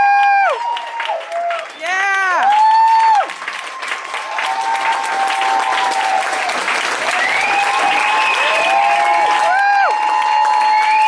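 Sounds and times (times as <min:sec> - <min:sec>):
audience applauding: 0:00.0 - 0:11.0
people whooping: 0:00.0 - 0:11.0.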